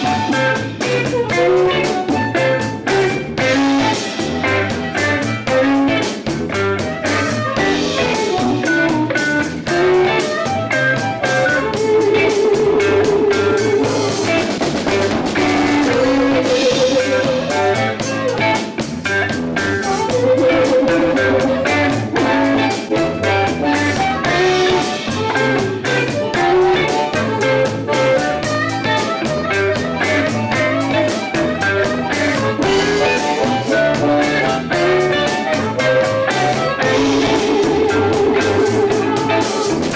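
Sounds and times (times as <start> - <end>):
blues band playing: 0.0 - 39.9
blues harmonica wavering notes: 0.0 - 39.9.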